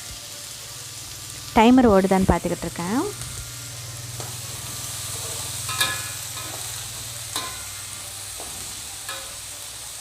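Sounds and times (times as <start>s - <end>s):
beans sizzling in a pan: 0.0s - 10.0s.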